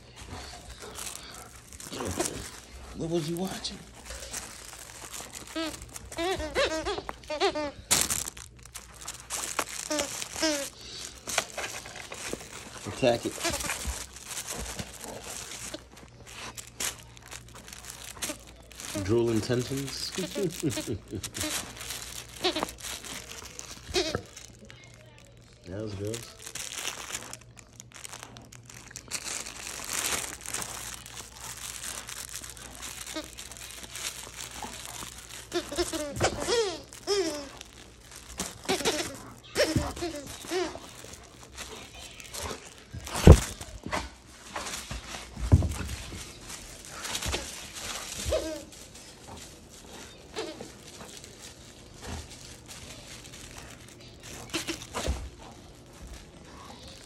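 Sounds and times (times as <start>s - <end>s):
crinkle toy crackling and rustling: 0.0s - 57.0s
dog chewing toy: 0.1s - 57.0s.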